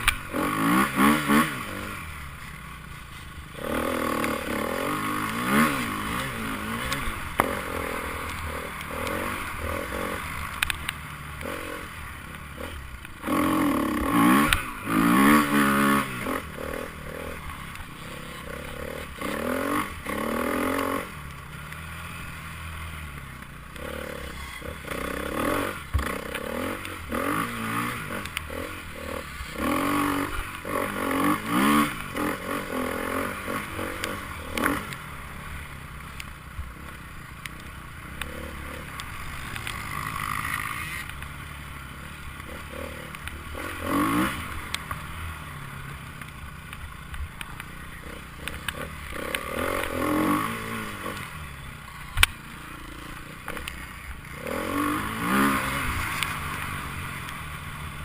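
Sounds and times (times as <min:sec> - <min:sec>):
motorcycles revving past: 0:00.0 - 0:58.0.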